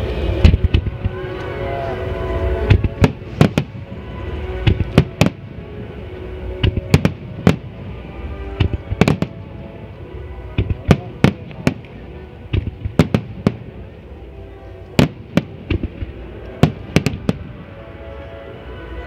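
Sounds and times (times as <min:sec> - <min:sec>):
fireworks bursting: 0:00.0 - 0:01.6, 0:02.4 - 0:14.1, 0:14.9 - 0:17.7
music with held tones: 0:00.0 - 0:19.0.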